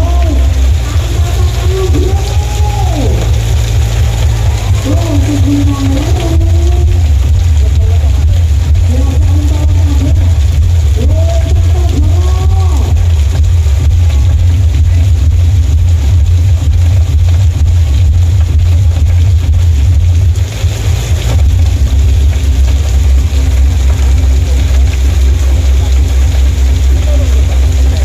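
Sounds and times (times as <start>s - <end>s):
distorted loud bass music: 0.0s - 28.0s.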